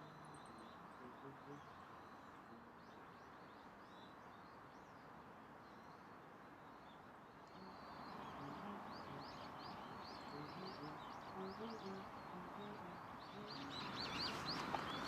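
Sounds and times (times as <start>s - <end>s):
faint songbird chirping: 0.0s - 15.0s
outdoor background hiss: 0.0s - 15.0s.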